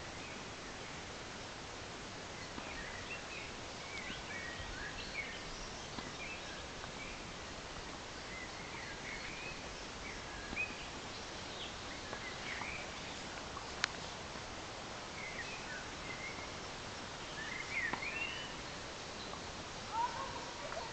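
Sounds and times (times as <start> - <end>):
outdoor ambient hiss: 0.0 - 20.9
birds chirping and twittering: 2.2 - 20.9.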